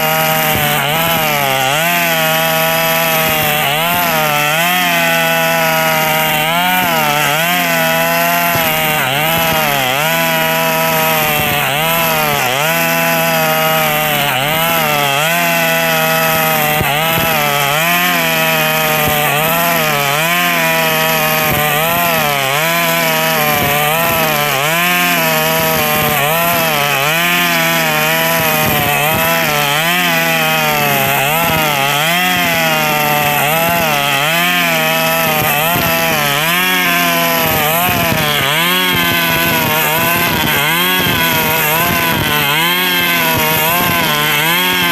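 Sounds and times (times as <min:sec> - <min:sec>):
brush cutter engine running: 0:00.0 - 0:44.9.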